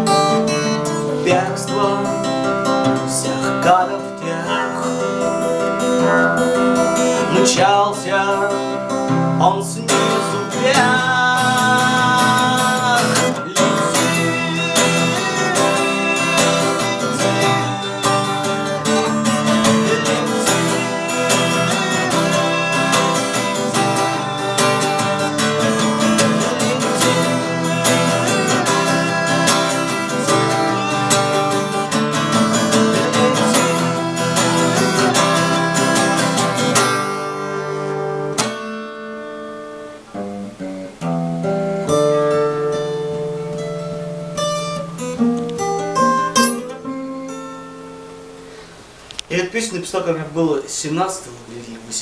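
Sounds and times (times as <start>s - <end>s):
acoustic guitar playing: 0.0s - 52.0s.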